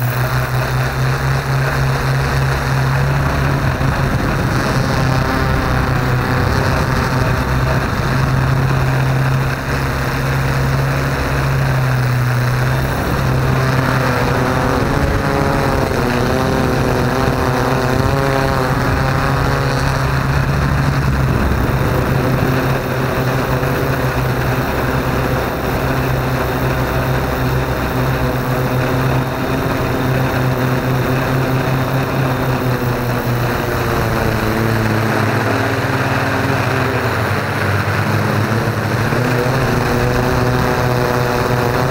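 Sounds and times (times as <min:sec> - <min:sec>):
drone propellers buzzing: 0:00.0 - 0:41.9.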